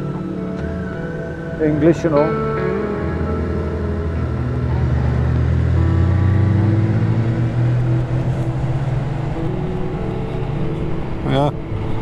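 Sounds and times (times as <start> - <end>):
wind noise: 0.0 - 12.0
motorcycle engine accelerating: 2.3 - 12.0.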